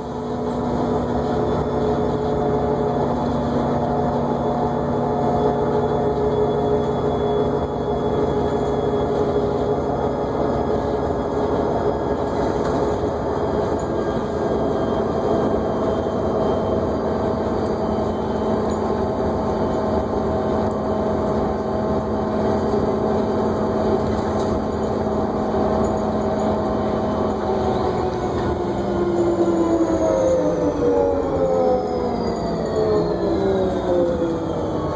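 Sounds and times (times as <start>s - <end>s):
bus engine and road noise: 0.0s - 34.9s
bus whine: 0.0s - 34.9s.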